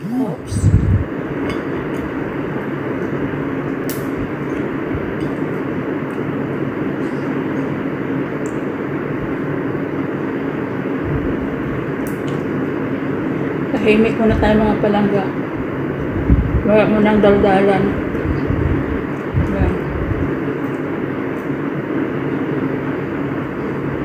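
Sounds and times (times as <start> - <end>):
droning hum: 0.0 - 24.0.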